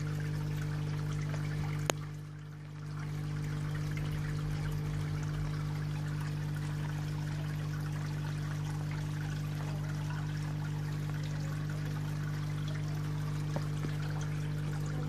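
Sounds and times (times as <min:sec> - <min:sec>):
water splashing into pond: 0:00.0 - 0:15.0.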